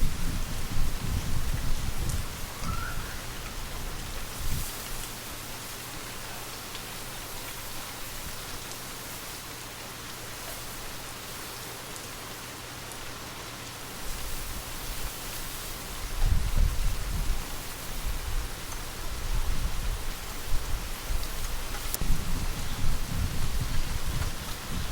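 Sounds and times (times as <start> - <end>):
gentle rain: 0.0 - 24.9.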